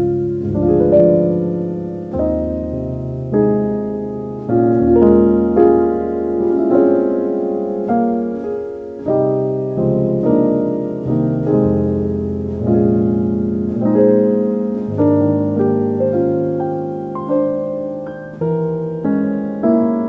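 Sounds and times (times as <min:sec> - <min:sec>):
soft slow piano music: 0:00.0 - 0:20.0.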